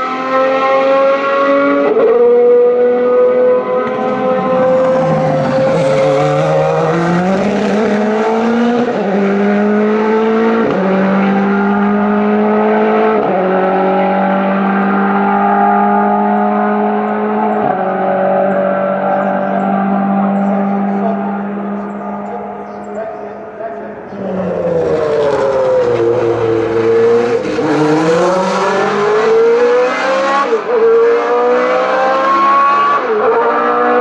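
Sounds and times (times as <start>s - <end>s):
race car engine accelerating: 0.0s - 34.0s.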